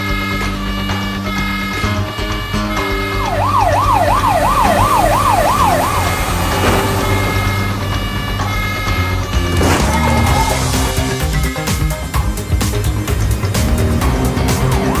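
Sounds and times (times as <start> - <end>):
siren wailing: 0.0 - 12.9
background music: 0.0 - 15.0.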